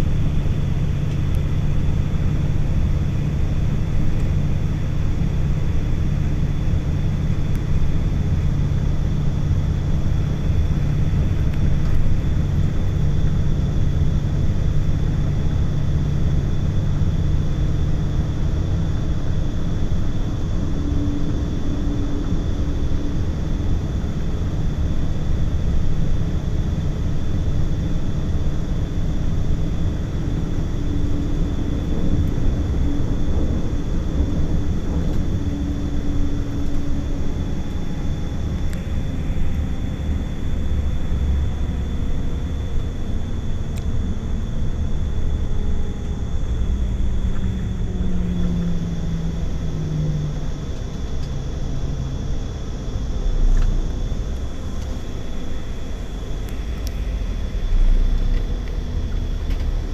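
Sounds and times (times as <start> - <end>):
motor running with low rumble: 0.0 - 59.9.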